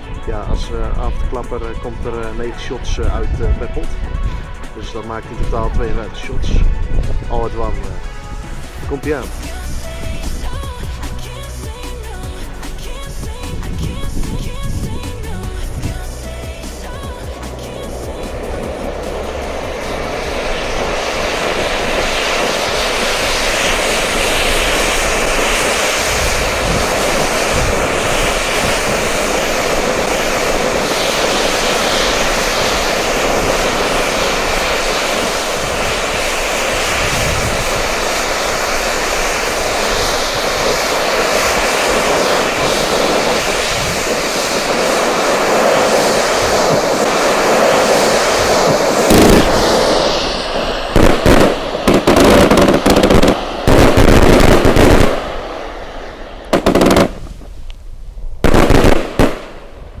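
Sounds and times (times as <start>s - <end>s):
firework fountain hissing: 0.0s - 60.0s
firework shots firing in volleys: 4.5s - 57.6s, 58.4s - 59.9s.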